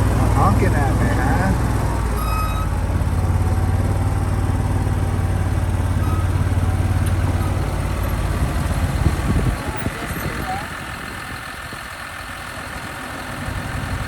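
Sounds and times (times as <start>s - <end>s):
tractor diesel engine droning: 0.0s - 14.0s.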